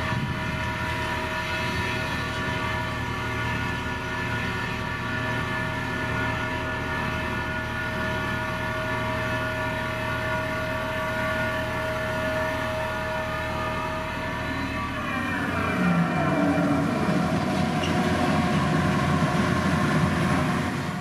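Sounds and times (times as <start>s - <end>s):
diesel engine running: 0.0s - 21.0s
steady engine whine: 0.0s - 21.0s.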